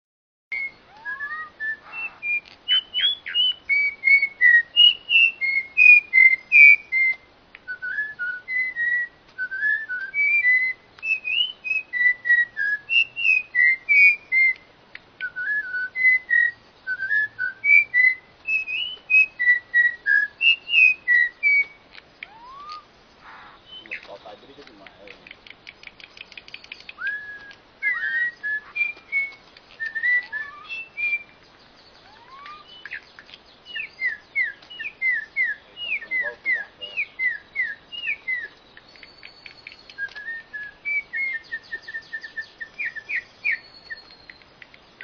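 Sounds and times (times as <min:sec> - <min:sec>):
songbird whistling: 0:00.5 - 0:45.0.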